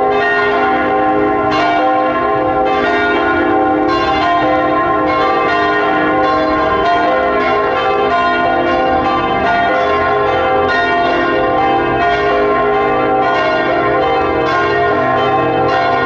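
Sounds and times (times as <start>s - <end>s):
church bells pealing: 0.0s - 16.0s.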